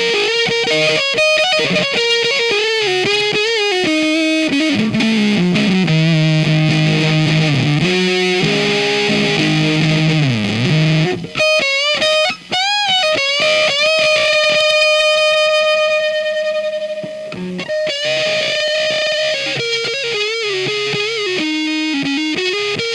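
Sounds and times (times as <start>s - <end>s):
fuzzed electric guitar: 0.0s - 22.9s.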